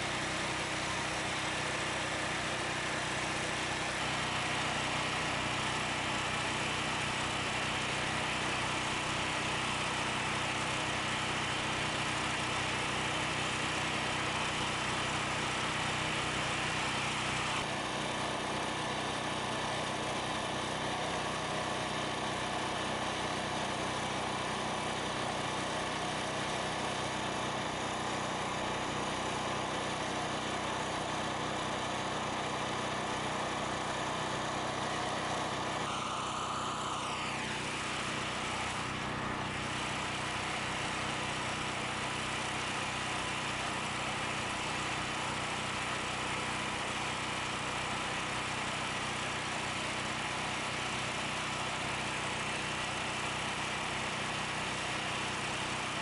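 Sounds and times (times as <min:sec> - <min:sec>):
generator engine running: 0:00.0 - 0:56.0.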